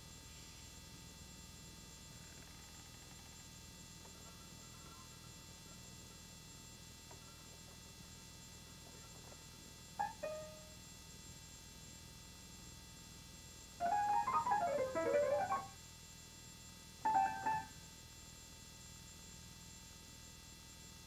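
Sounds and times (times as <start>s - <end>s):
low electrical hum with hiss: 0.0s - 21.0s.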